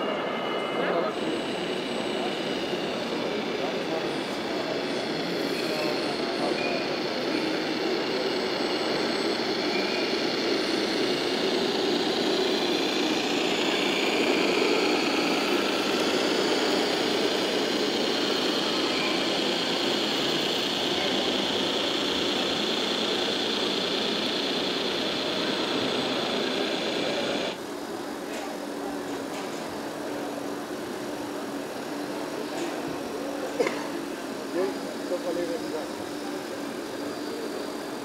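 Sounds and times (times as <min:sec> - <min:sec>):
model truck motor drone: 0:00.0 - 0:28.0, 0:29.7 - 0:38.0
busy hall noise: 0:00.0 - 0:38.0.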